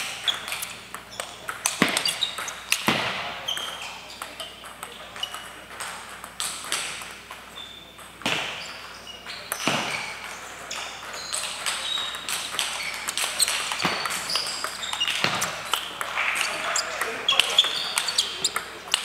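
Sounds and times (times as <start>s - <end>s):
table tennis balls pinging: 0.0s - 19.0s.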